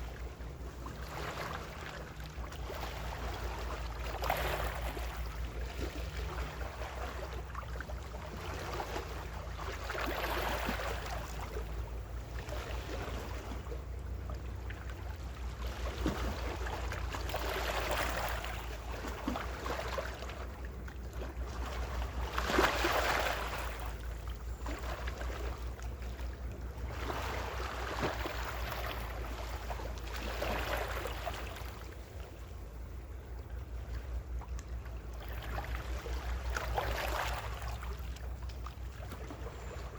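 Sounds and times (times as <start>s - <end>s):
small waves breaking on shore: 0.0s - 39.9s
steady low rumble: 0.0s - 39.9s.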